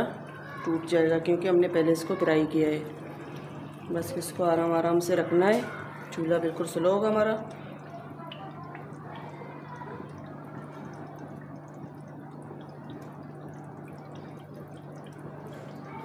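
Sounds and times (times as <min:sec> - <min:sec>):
curry bubbling in a pot: 0:00.0 - 0:16.0
steady low hum: 0:00.0 - 0:16.0.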